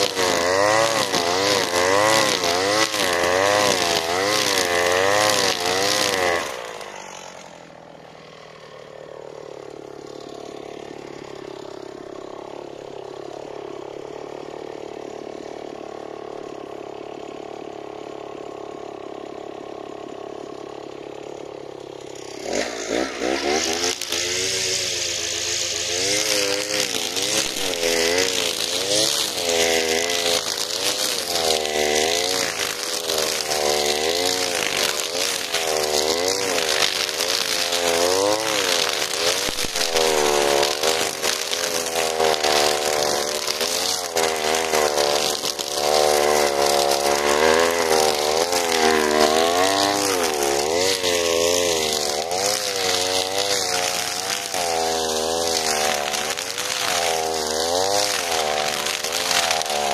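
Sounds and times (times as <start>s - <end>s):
gas trimmer cutting weeds: 0.0s - 59.9s.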